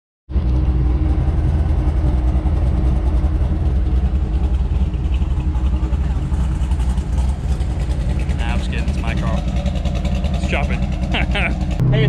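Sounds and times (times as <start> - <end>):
engine idling with choppy lope: 0.3 - 12.0.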